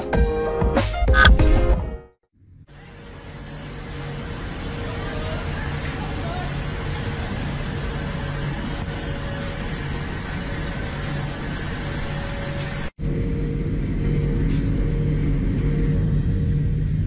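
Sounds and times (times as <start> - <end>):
low engine hum: 2.4 - 17.0.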